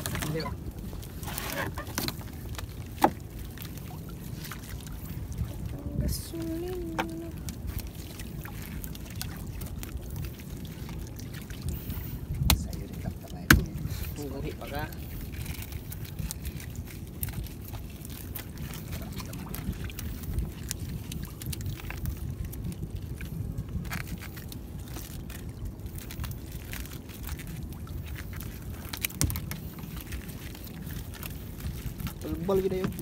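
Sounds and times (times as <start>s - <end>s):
water sloshing against boat: 0.0s - 33.0s
wind on microphone: 0.0s - 33.0s.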